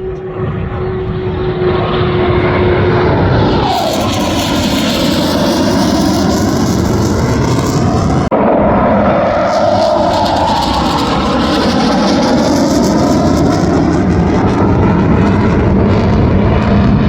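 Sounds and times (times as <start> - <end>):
jet engines passing: 0.0 - 17.0.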